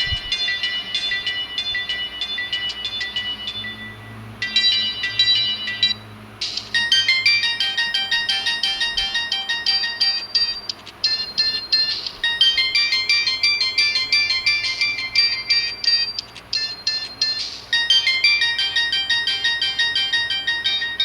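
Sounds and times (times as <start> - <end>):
electronic beeping ringtones: 0.0 - 21.0.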